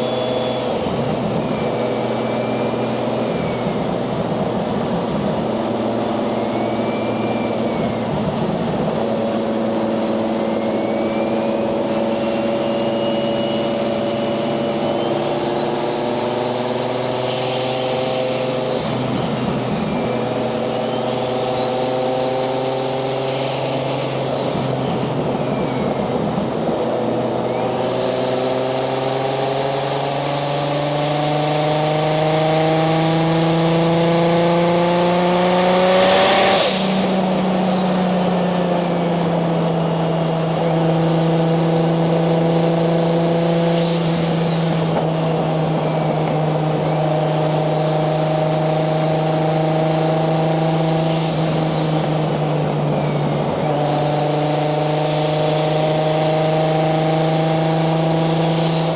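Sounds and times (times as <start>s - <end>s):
car engine under load: 0.0s - 58.9s
turbo whistle: 0.0s - 58.9s.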